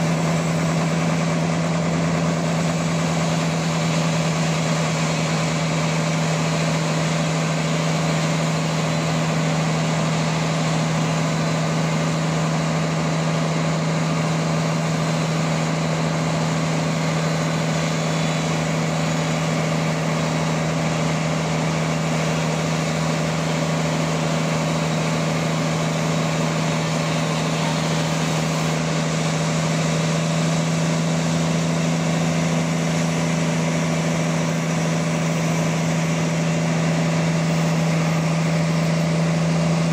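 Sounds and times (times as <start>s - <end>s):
sawmill motor drone: 0.0s - 39.9s.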